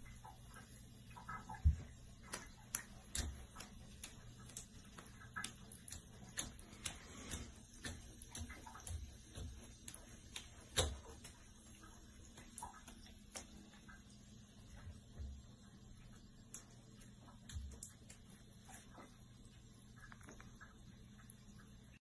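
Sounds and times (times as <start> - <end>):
cat paws tapping on bathtub: 0.0 - 22.0.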